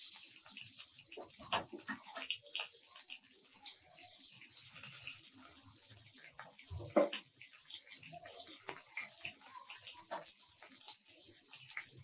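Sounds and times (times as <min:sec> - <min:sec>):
oil crackles and pops: 0:00.0 - 0:12.0
onions sizzling in hot oil: 0:00.0 - 0:12.0.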